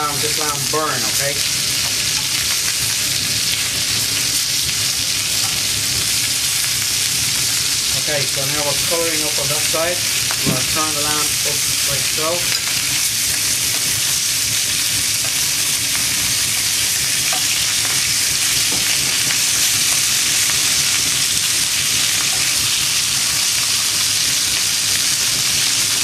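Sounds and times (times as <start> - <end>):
meat sizzling in a hot pan: 0.0 - 26.0.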